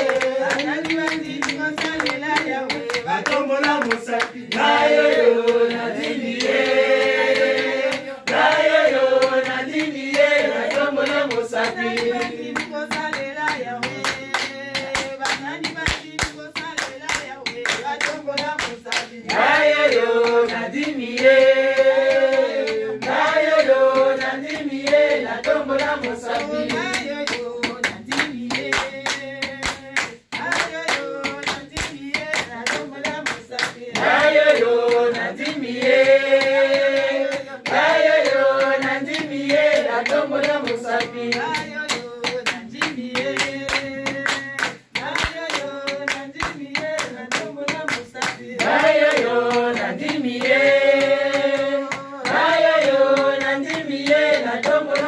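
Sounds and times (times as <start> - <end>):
group clapping in rhythm: 0.0 - 55.0
people singing: 0.0 - 55.0.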